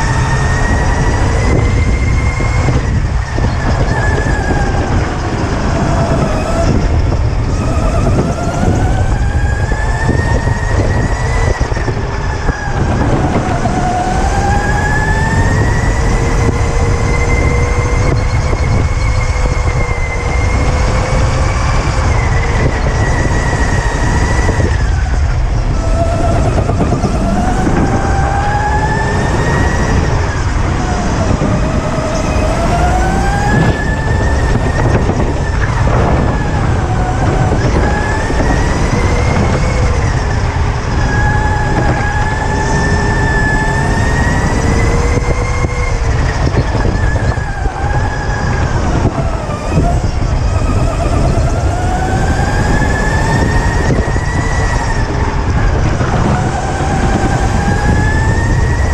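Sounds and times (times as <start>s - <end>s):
electric go-kart motor whining: 0.0s - 58.9s
low rumble: 0.0s - 58.9s.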